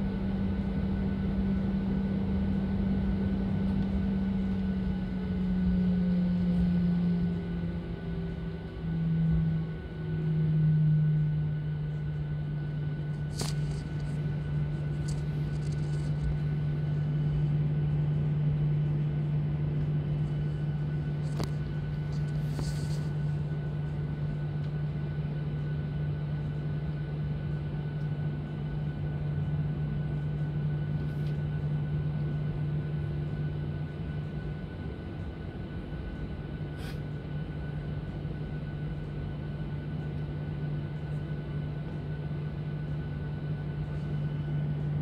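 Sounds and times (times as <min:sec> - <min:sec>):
jet engines at takeoff thrust: 0:00.0 - 0:45.0.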